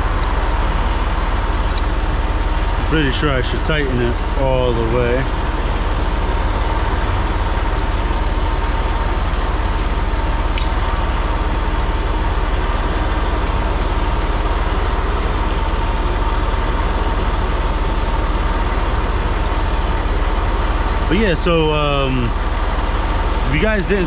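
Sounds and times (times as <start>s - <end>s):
diesel truck engine idling: 0.0s - 24.0s
thin whine: 0.0s - 24.0s.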